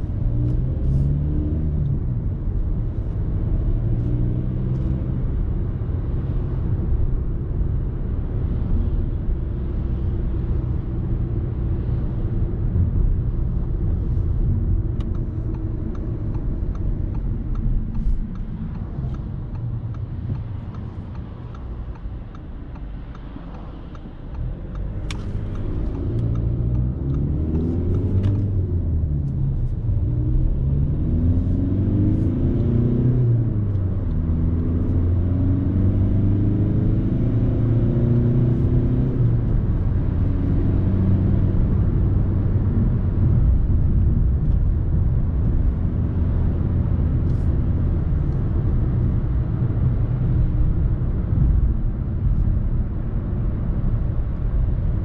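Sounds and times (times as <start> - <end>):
car engine rumble: 0.0 - 55.0
road noise inside car: 0.0 - 55.0.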